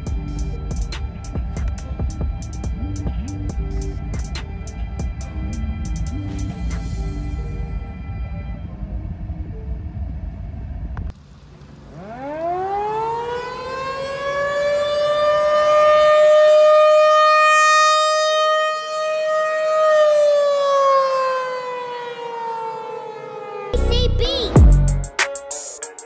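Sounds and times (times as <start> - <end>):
warning siren wailing: 0.0 - 10.0, 12.0 - 23.9, 24.5 - 26.0.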